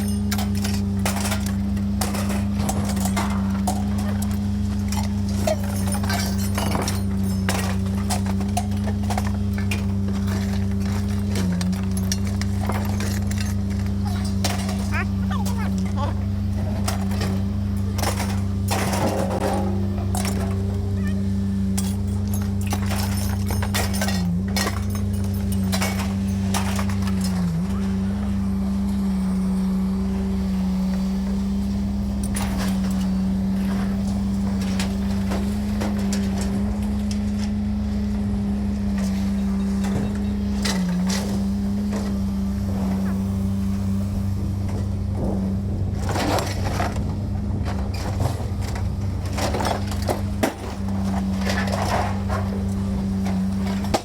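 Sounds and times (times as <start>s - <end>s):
mechanical hum: 0.0s - 54.0s.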